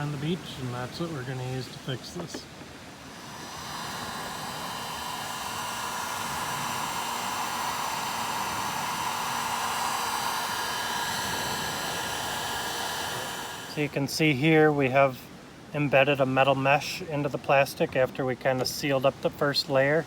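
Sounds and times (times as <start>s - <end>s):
heat gun fan blowing: 0.0s - 20.0s.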